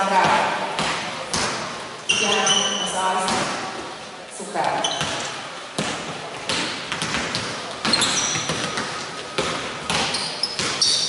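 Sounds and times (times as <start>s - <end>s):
basketballs bouncing on hardwood: 0.1s - 2.6s, 3.2s - 3.8s, 4.8s - 11.0s
sneaker squeaks: 1.2s - 3.8s, 4.7s - 11.0s.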